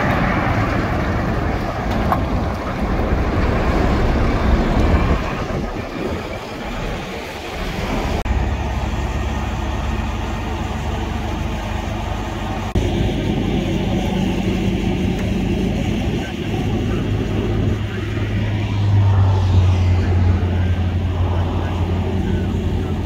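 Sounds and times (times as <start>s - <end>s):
diesel truck engine rumble: 0.0s - 23.0s
tyre and road noise: 0.0s - 23.0s.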